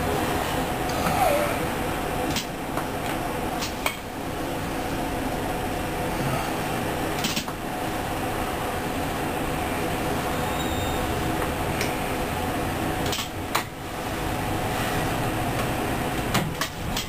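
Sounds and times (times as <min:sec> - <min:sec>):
equipment and ventilation hum: 0:00.0 - 0:17.0.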